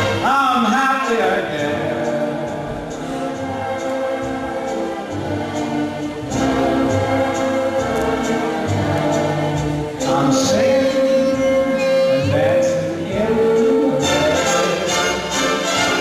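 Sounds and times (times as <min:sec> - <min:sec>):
orchestral music: 0:00.0 - 0:16.0
voices singing long notes: 0:01.0 - 0:16.0.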